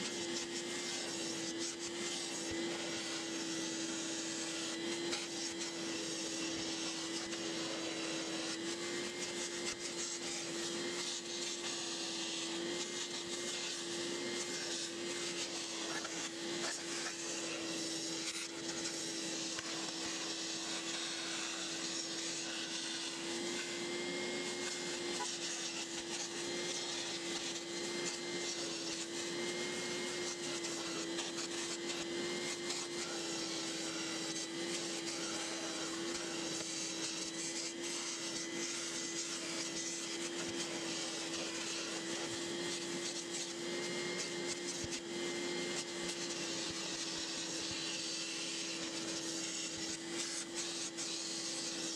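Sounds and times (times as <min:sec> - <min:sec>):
carpet extractor suction hum: 0:00.0 - 0:51.9.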